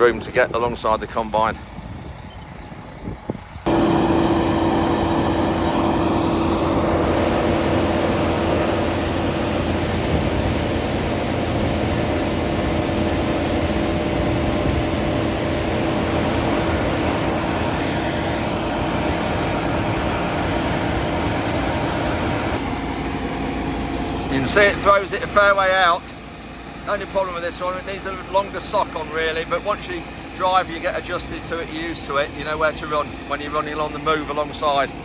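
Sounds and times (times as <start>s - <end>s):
constant hum: 0.0s - 35.0s
harvester machinery drone: 0.0s - 35.0s.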